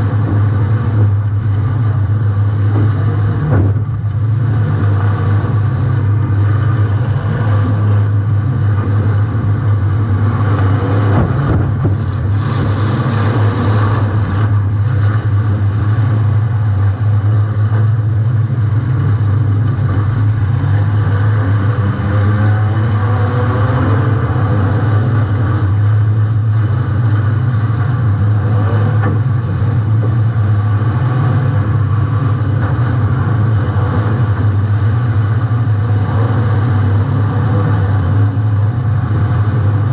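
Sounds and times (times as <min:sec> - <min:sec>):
car engine running loud: 0:00.0 - 0:39.9.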